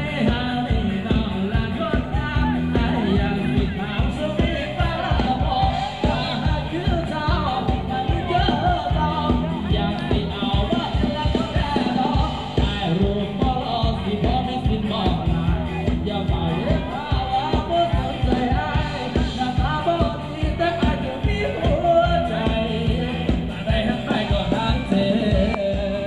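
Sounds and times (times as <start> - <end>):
live band dance music: 0.0 - 26.0
person singing: 0.0 - 26.0.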